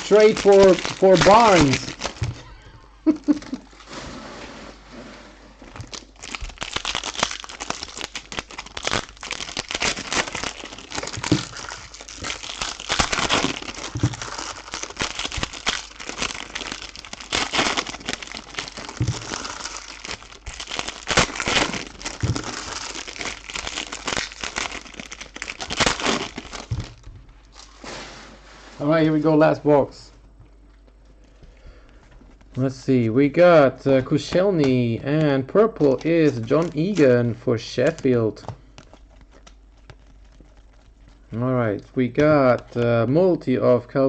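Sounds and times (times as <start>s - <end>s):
card pack wrappers crinkling: 0.0s - 3.9s, 5.6s - 27.8s, 33.7s - 43.4s.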